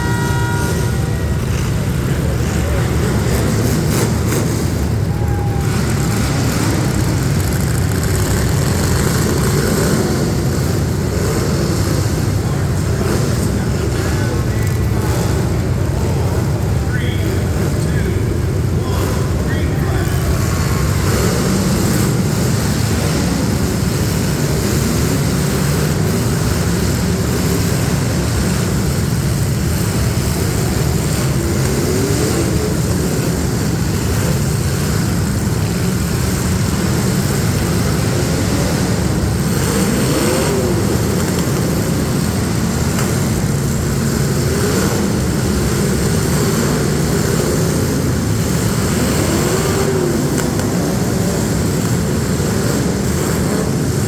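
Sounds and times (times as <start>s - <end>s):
car engines running and revving: 0.0s - 54.0s.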